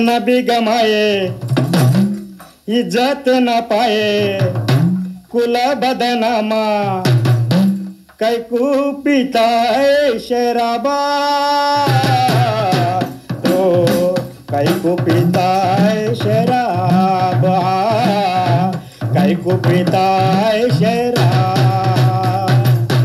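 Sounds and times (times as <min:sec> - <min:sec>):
drum beat: 0:00.0 - 0:23.0
person singing: 0:02.6 - 0:04.7, 0:05.3 - 0:07.2, 0:08.1 - 0:23.0.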